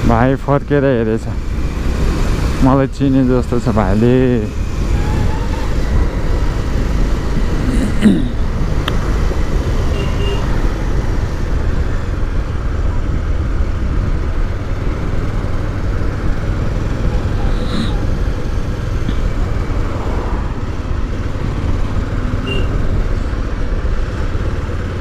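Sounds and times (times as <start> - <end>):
motorcycle engine: 0.0 - 25.0
road and wind noise: 0.0 - 25.0
traffic: 0.0 - 25.0.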